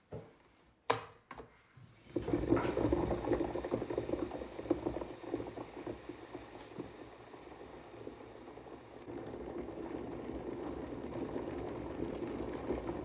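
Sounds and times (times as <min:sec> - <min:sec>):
water boiling in a kettle: 0:02.0 - 0:13.0.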